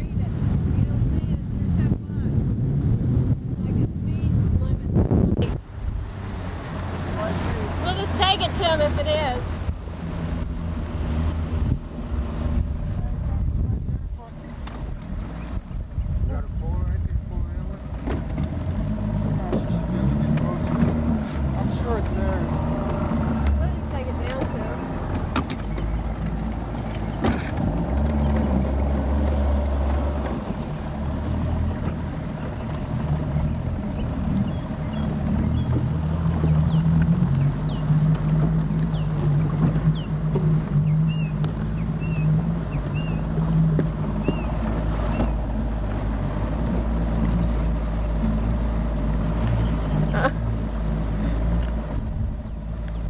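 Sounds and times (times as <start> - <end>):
motorboat engine drone: 0.0 - 53.0
wind on microphone: 0.0 - 53.0.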